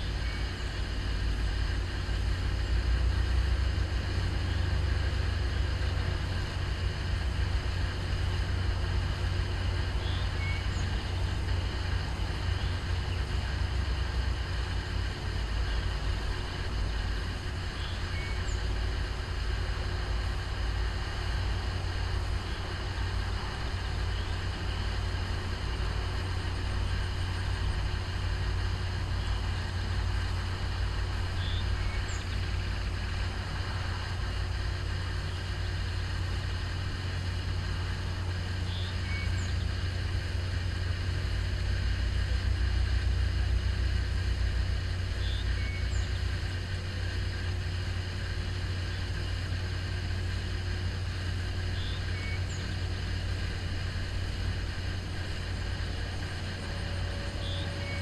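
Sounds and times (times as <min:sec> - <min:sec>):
distant boat diesel engines: 0:00.0 - 0:58.0.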